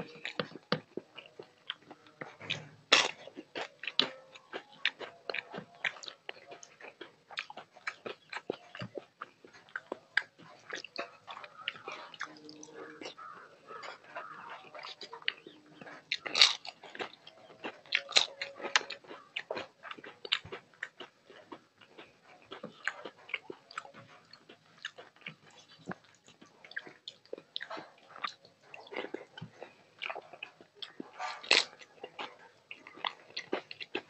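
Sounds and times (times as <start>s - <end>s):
chewing: 0.0s - 34.0s.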